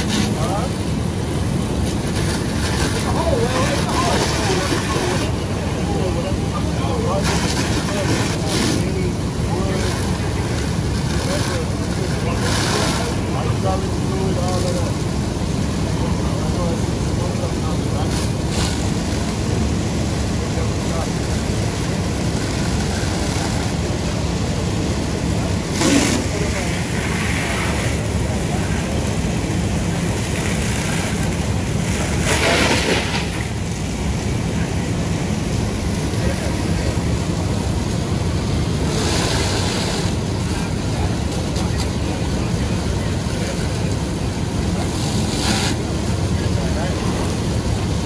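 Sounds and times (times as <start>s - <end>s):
noisy hiss: 0.0s - 48.0s
truck engines rumbling: 0.0s - 48.0s.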